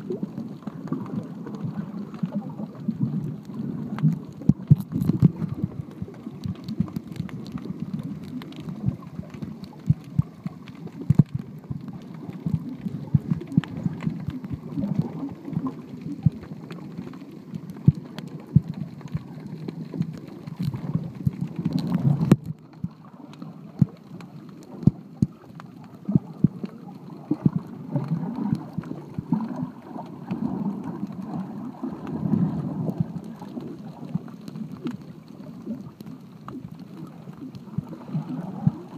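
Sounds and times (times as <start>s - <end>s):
underwater rumble of moving water: 0.0s - 38.9s
sharp underwater clicks: 0.1s - 38.9s.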